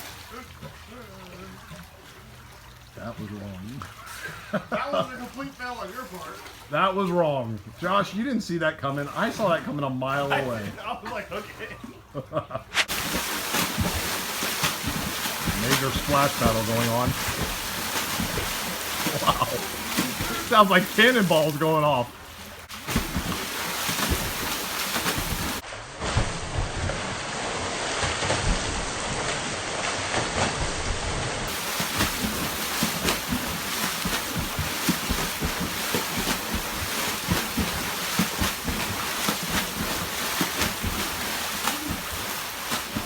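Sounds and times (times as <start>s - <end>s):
water splashing in a pool: 0.0s - 43.0s.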